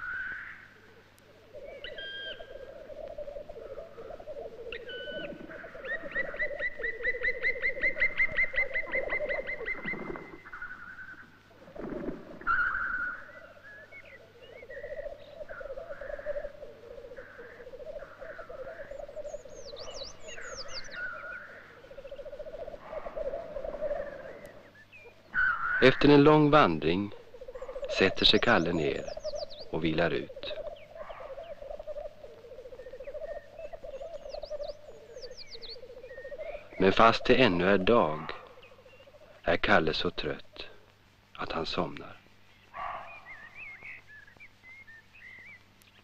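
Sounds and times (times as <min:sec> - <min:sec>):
low wavering bird call: 0:00.0 - 0:11.4, 0:12.4 - 0:39.4.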